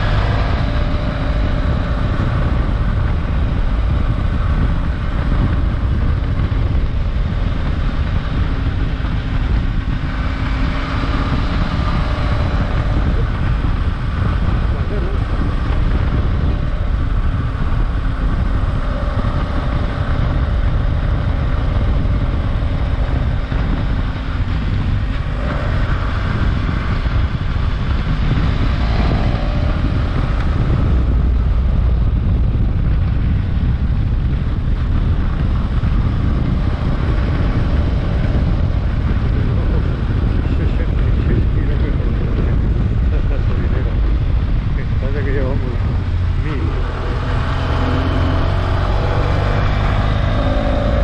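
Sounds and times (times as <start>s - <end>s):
motorcycle engine running: 0.0s - 51.0s
wind on microphone: 0.0s - 51.0s.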